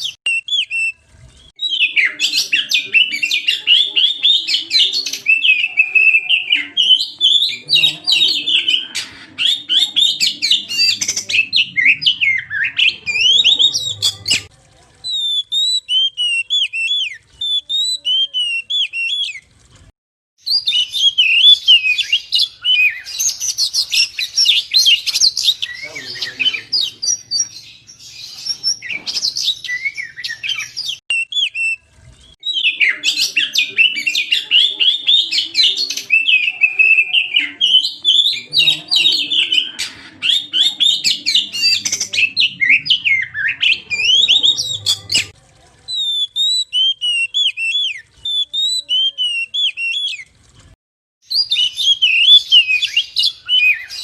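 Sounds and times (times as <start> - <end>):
magpie-robin singing: 0.0 - 14.5, 15.1 - 19.4, 20.4 - 31.8, 32.4 - 50.2, 51.3 - 54.0.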